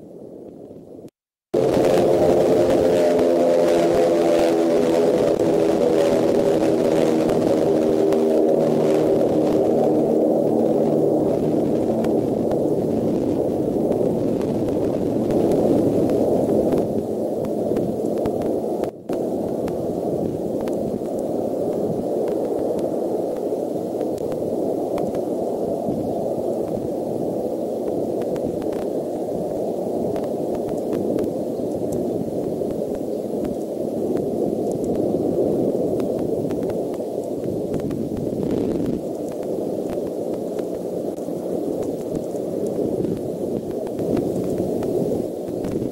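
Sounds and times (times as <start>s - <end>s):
steady rushing noise: 0.0s - 45.9s.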